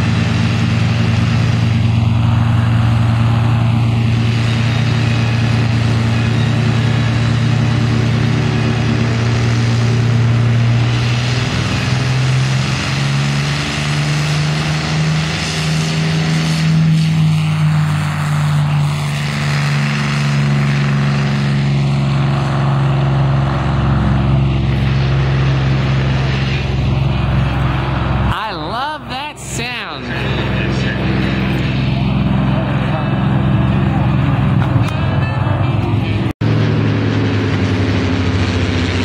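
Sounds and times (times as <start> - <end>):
plane piston engine drone: 0.0 - 39.0.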